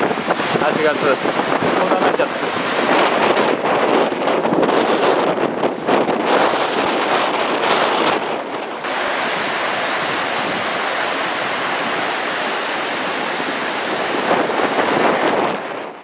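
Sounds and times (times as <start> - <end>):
flooded river rushing: 0.0 - 16.0
wind on microphone: 0.0 - 16.0.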